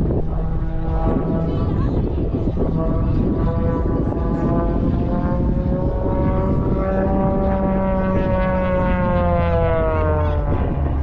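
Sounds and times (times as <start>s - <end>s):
low rumble: 0.0s - 11.0s
propeller plane droning: 0.0s - 11.0s.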